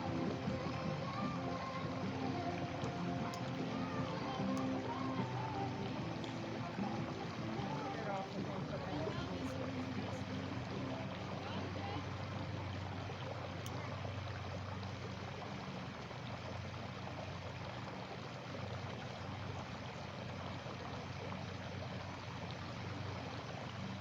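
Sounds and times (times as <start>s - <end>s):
low steady hum: 0.0s - 24.0s
rushing water noise: 0.0s - 24.0s.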